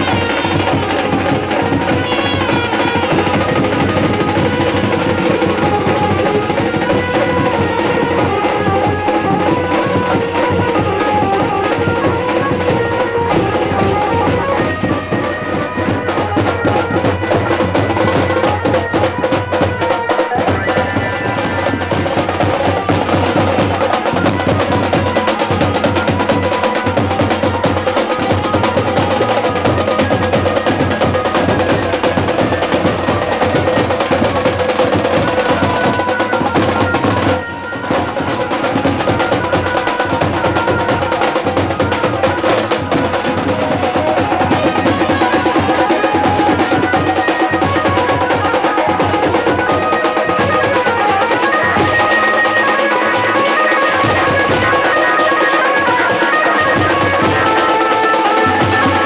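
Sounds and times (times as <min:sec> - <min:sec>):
held melody line: 0:00.0 - 0:59.0
loud dense drumming: 0:00.0 - 0:59.0.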